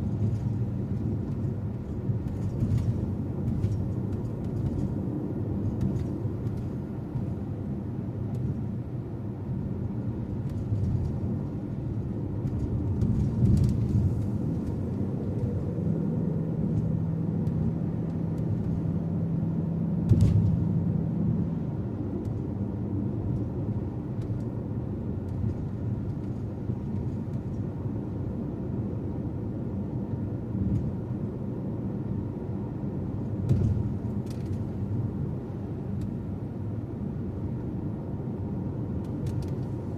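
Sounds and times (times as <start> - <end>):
car road and engine rumble: 0.0 - 39.9
steady low hum: 0.0 - 39.9.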